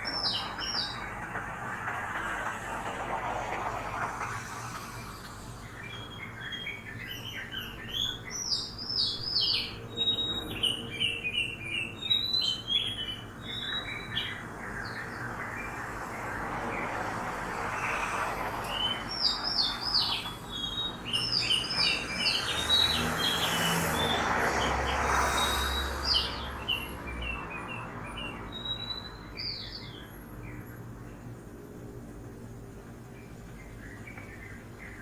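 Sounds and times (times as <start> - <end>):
songbirds chirping: 0.0 - 2.8, 4.7 - 35.0
city traffic noise: 0.0 - 35.0.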